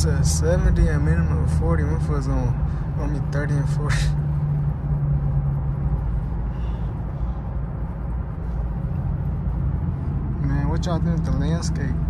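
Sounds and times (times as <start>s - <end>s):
car engine low hum: 0.0s - 12.0s
tyre and road noise: 0.0s - 12.0s.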